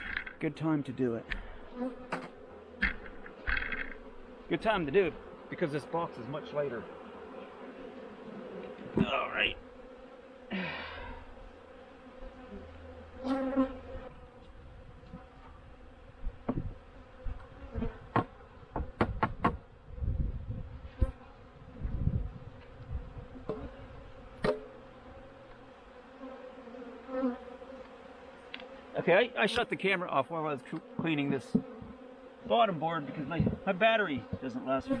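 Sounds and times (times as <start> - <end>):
bees buzzing: 0.0 - 35.0
bees passing close: 0.0 - 35.0.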